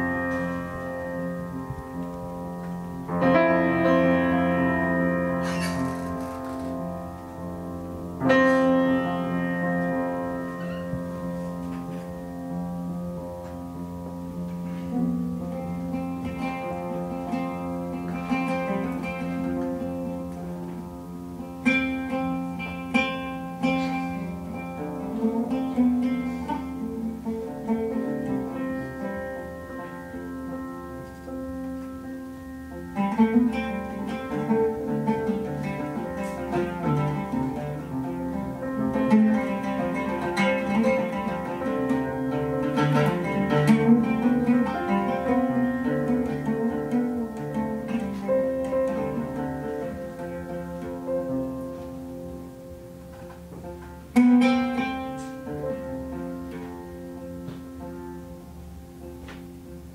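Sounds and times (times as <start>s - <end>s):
oud plucked melody: 0.0s - 59.9s.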